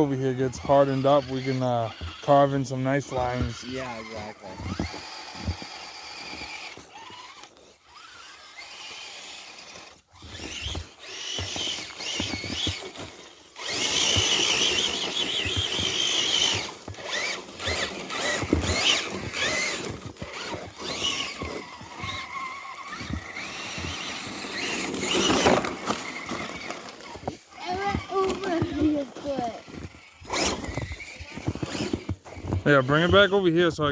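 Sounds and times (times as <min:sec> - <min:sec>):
rc truck electric motor whine: 0:00.1 - 0:33.5.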